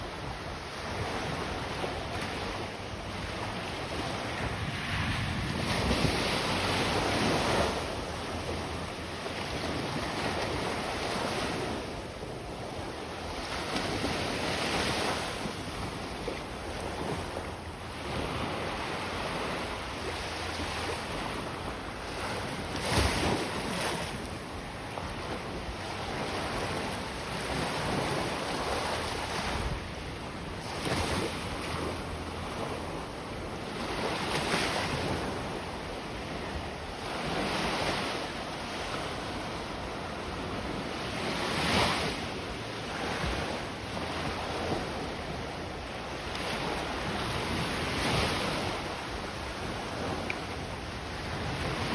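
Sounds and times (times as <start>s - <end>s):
wind on microphone: 0.0s - 51.9s.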